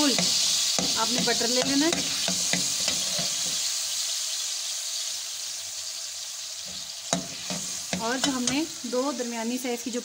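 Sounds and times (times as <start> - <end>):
butter sizzling in a pan: 0.0 - 10.0.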